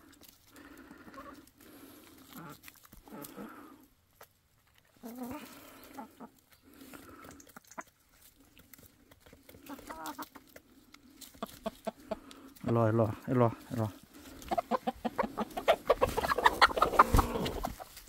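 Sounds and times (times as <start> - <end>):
hens clucking: 0.0 - 3.9, 4.6 - 18.0.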